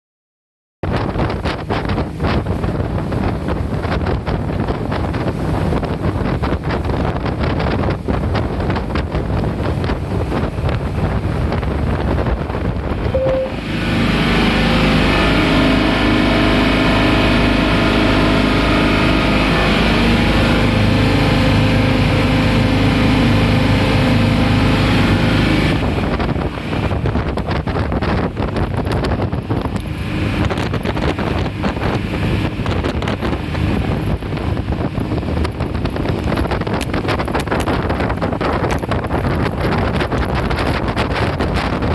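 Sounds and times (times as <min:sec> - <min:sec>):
wind buffeting microphone: 0:00.8 - 0:41.9
boat engine drone: 0:00.9 - 0:41.9
water noise: 0:00.9 - 0:41.9.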